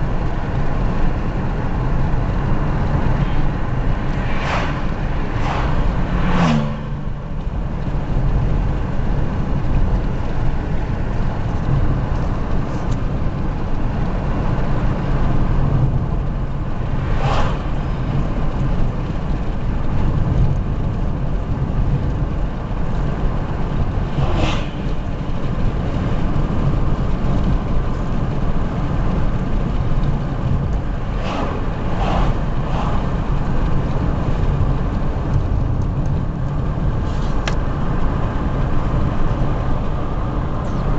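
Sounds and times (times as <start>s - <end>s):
car driving on a road: 0.0s - 40.9s.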